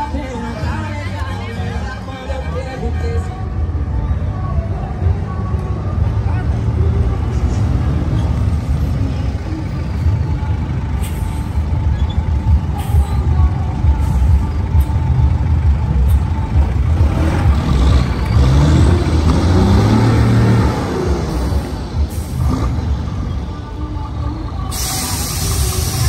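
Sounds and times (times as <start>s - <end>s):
diesel truck engines passing: 0.0s - 26.0s.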